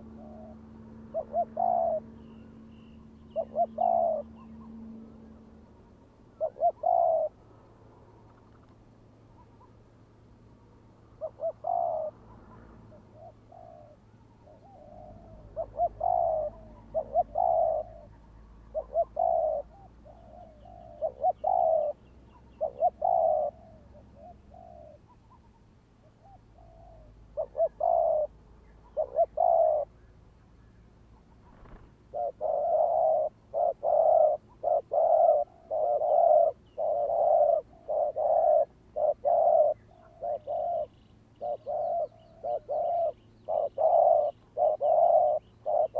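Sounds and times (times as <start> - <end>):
doves cooing: 0.0 - 5.0, 6.3 - 7.4, 11.1 - 30.0, 31.2 - 45.9.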